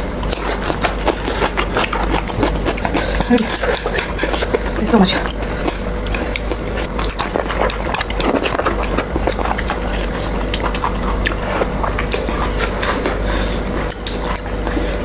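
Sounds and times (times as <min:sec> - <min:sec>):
wet chewing and mouth noises: 0:00.0 - 0:15.0.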